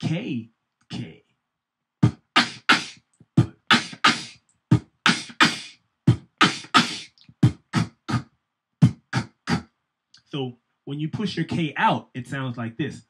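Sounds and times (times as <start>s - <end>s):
beatboxing into a microphone: 0.0s - 1.2s, 2.0s - 8.2s, 8.8s - 9.6s, 10.2s - 13.0s.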